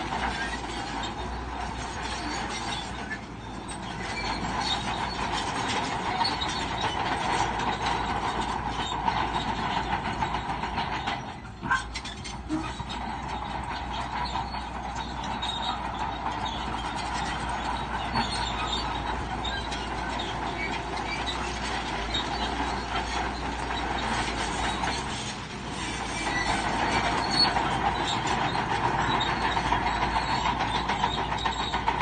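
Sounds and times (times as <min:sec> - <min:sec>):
bulldozer diesel engine running: 0:00.0 - 0:32.0
steel tracks clanking and squealing: 0:00.0 - 0:32.0.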